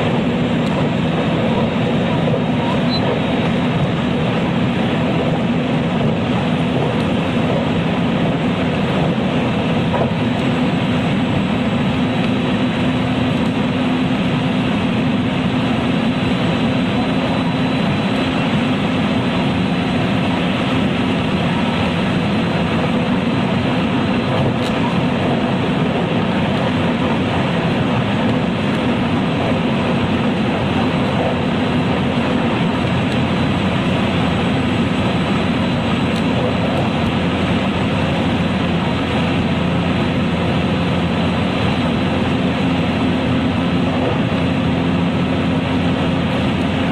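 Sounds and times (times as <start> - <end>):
wheels rumbling on rail: 0.0 - 46.9.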